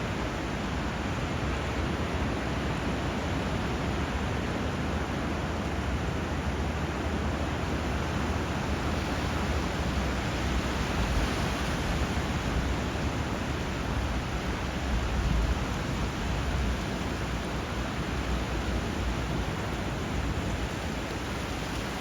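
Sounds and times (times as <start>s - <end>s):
rushing river water: 0.0s - 22.0s.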